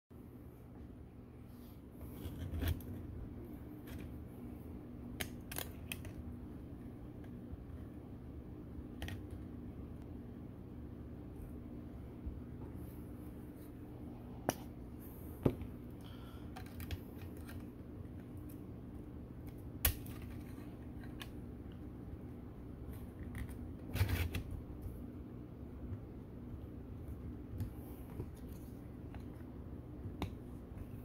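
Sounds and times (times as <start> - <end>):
low steady hum: 0.1 - 31.0.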